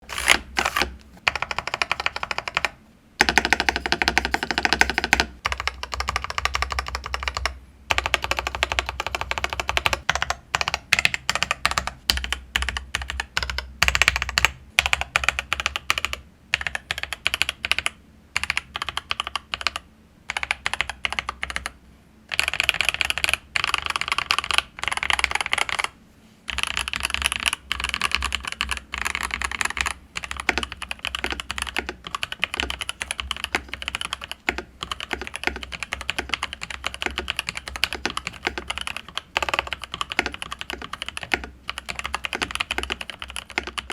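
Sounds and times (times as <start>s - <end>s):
mechanical keyboard typing: 0.0s - 25.9s, 26.5s - 43.9s.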